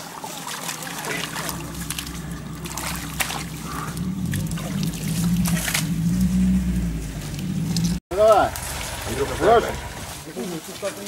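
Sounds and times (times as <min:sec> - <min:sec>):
wet scrapes and splashes: 0:00.0 - 0:11.0
vehicle engine idling: 0:00.9 - 0:10.5.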